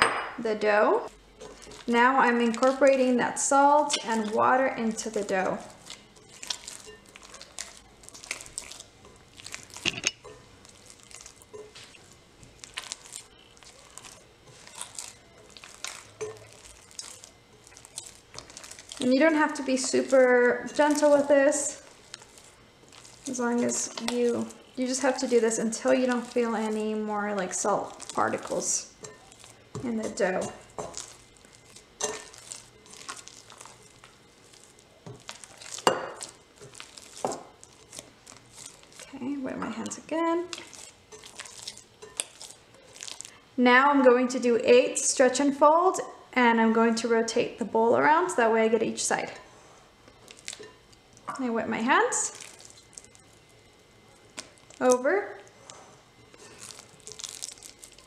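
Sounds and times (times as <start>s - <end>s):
wet dough squelching under hands: 0.6s - 43.6s, 49.0s - 58.0s.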